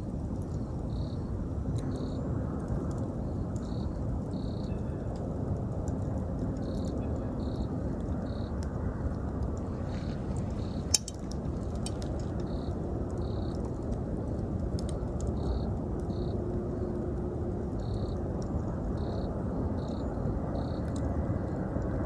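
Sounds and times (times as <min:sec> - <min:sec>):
campfire crackling and popping: 0:00.0 - 0:22.0
insects chirping: 0:00.5 - 0:02.3, 0:03.0 - 0:04.8, 0:06.6 - 0:13.8, 0:14.4 - 0:22.0.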